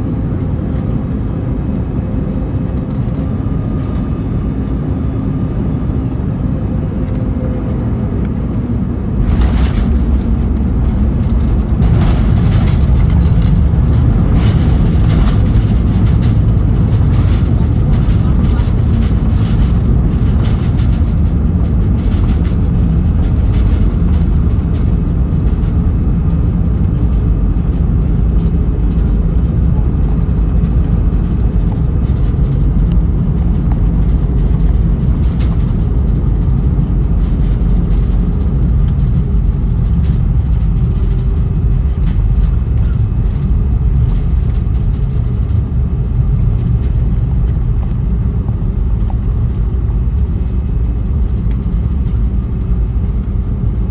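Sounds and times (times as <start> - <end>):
airplane cabin rumble: 0.0 - 53.9
light rattles: 7.1 - 52.6.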